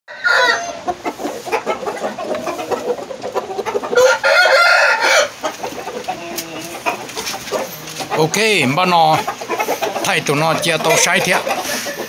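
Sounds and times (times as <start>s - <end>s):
rooster clucking: 0.1s - 12.0s
roosters crowing: 0.1s - 12.0s.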